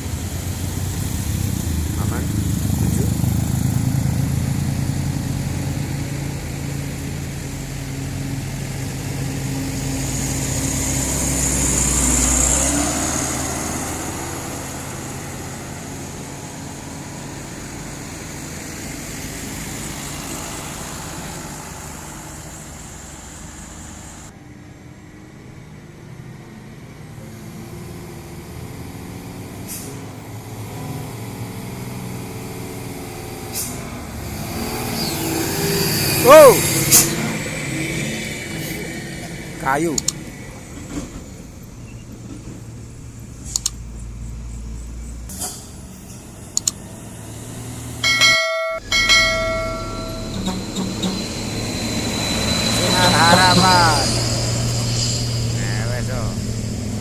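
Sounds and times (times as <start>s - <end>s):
heavy diesel truck labouring: 0.0s - 57.0s
road traffic: 0.0s - 57.0s.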